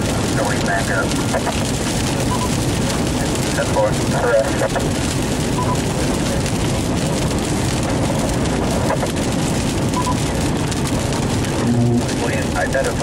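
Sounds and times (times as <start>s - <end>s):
rain on a moving car: 0.0s - 13.0s
tyre noise on wet road: 0.0s - 13.0s.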